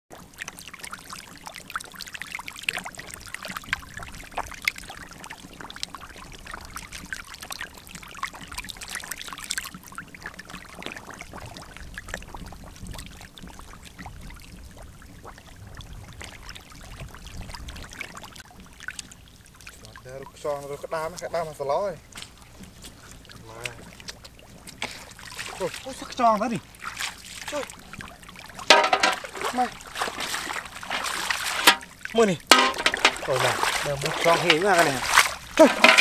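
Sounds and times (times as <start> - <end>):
fish splashing in shallow water: 0.1 - 36.0.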